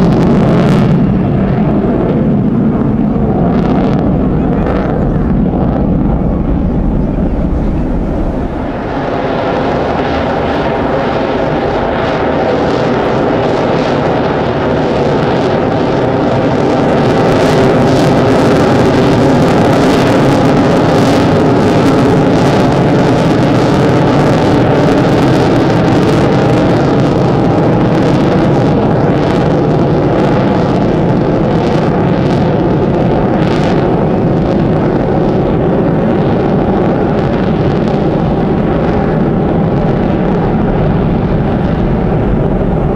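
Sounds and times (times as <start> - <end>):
jet engines roaring flying past: 0.0 - 42.9.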